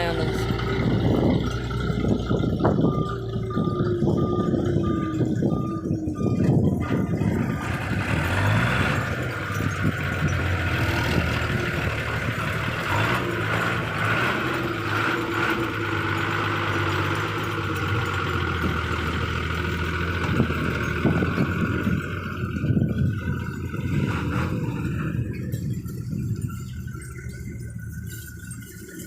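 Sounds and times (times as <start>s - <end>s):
truck engine running under load: 0.0s - 29.0s.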